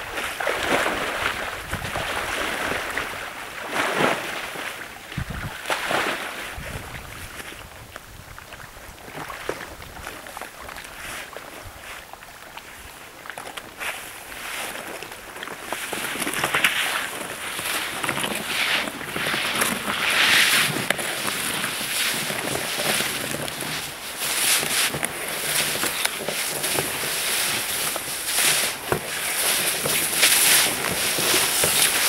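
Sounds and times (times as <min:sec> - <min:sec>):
water splashing: 0:00.0 - 0:32.0.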